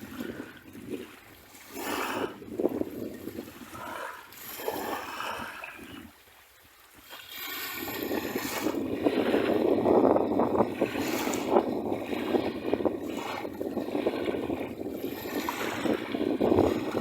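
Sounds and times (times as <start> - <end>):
sea waves washing onto beach: 0.0 - 17.0.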